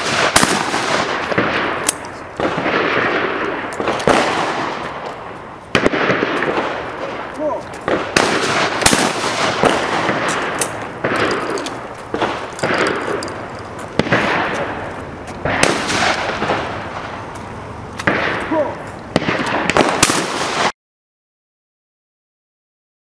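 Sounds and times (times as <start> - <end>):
shotgun shots echoing: 0.0 - 17.3, 18.0 - 20.7.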